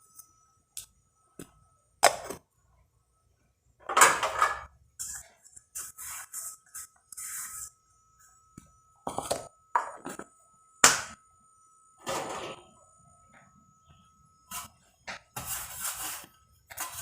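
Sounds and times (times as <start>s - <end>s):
faint steady high tone: 0.0s - 17.0s.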